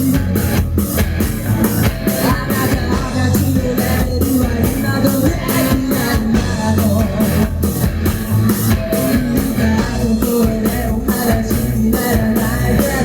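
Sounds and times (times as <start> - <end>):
drum kit beat: 0.0 - 13.0
electric guitar: 0.0 - 13.0.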